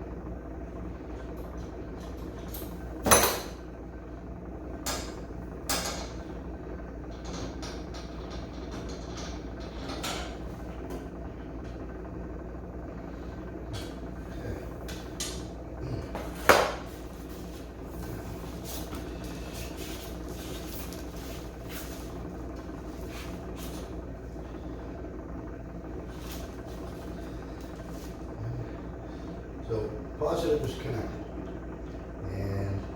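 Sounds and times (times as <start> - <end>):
low hum: 0.0 - 32.9.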